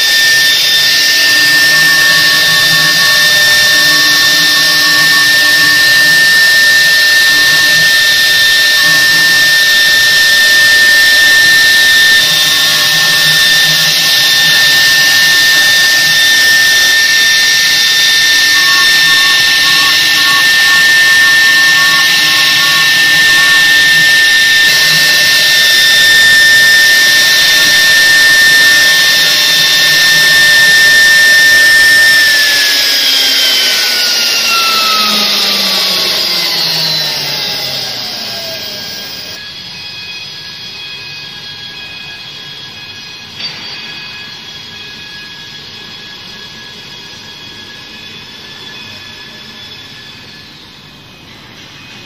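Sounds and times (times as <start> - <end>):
spindle motors whining: 0.0 - 52.0.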